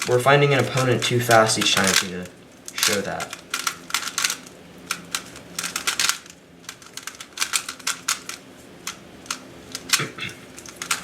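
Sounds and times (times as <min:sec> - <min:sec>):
puzzle cube plastic clicks: 0:00.7 - 0:11.0.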